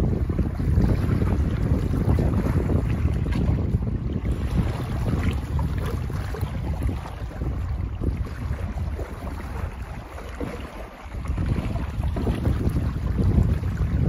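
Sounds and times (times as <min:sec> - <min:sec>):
waves lapping and splashing: 0:00.0 - 0:14.0
wind buffeting microphone: 0:00.0 - 0:14.0.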